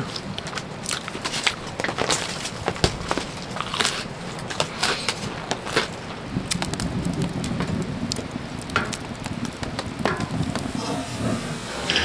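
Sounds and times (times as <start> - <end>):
wood fire crackling and popping: 0.0 - 12.0.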